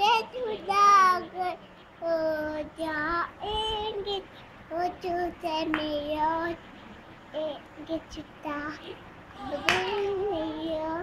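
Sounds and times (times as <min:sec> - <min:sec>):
girl singing unaccompanied: 0:00.0 - 0:06.7, 0:07.3 - 0:11.0.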